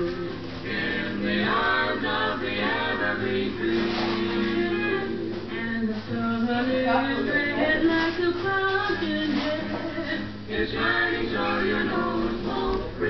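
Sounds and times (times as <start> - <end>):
background song music: 0.0 - 13.0.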